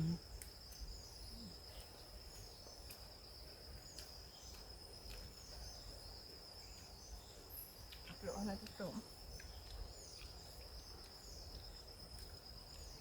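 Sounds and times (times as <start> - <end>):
bird chirps: 0.0 - 13.0
insects droning: 0.0 - 13.0.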